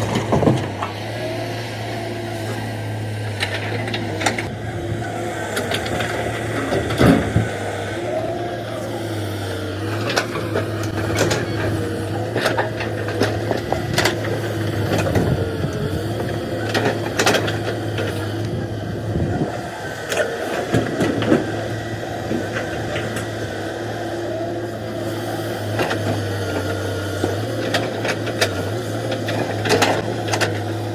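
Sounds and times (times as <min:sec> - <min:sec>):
excavator engine running: 0:00.0 - 0:30.9
hydraulic whine: 0:00.0 - 0:30.9.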